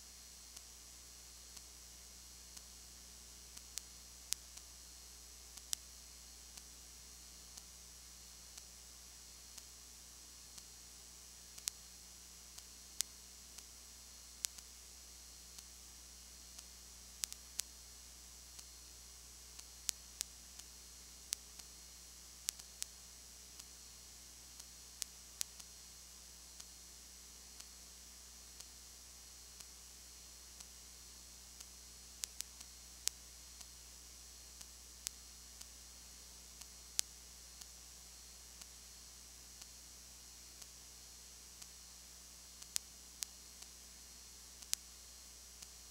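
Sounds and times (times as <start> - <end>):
low electrical hum: 0.0 - 45.9
recording hiss: 0.0 - 45.9.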